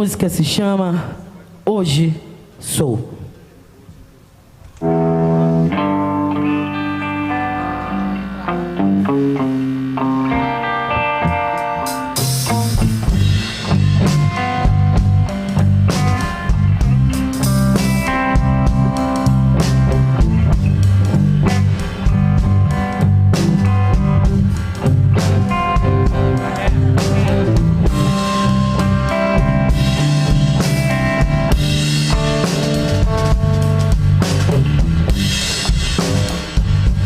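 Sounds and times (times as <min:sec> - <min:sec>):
bass guitar: 0:04.7 - 0:37.0
drum kit: 0:04.8 - 0:37.0
electric guitars playing melody: 0:04.8 - 0:37.0.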